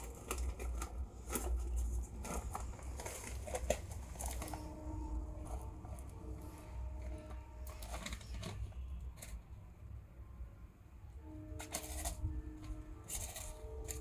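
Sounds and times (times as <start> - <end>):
faint steady tones: 0.0 - 14.0.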